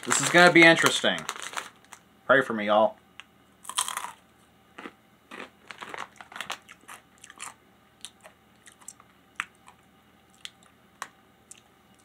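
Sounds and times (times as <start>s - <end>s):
chip crunching: 0.0s - 2.0s, 3.6s - 4.2s, 4.8s - 12.0s.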